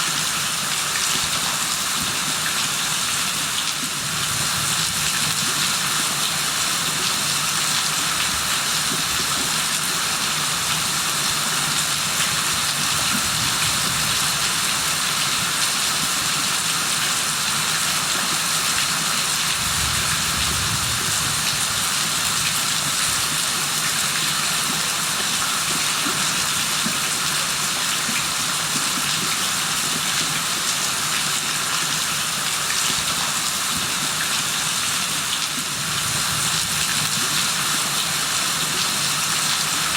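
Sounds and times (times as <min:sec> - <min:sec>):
rain falling on hard surfaces: 0:00.0 - 0:39.9.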